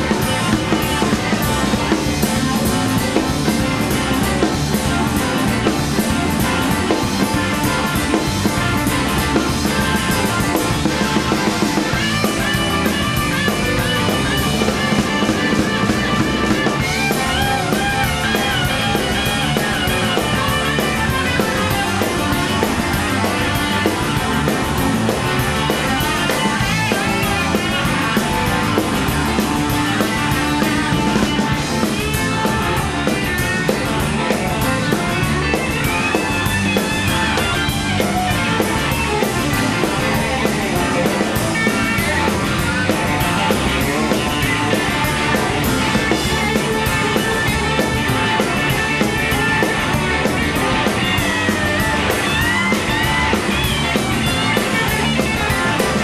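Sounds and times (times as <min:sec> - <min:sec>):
bass guitar: 0:00.0 - 0:56.0
drums: 0:00.0 - 0:56.0
electric guitars trading lead lines: 0:00.0 - 0:56.0.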